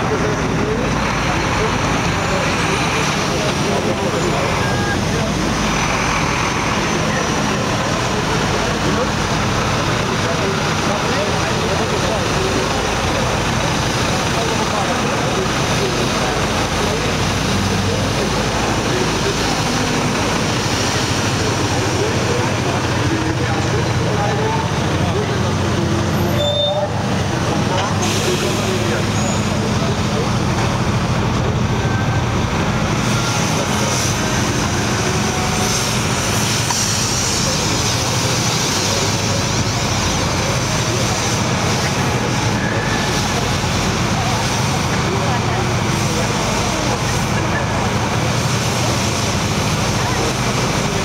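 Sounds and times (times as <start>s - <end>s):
diesel engine running: 0.0s - 51.0s
low machine drone: 0.0s - 51.0s.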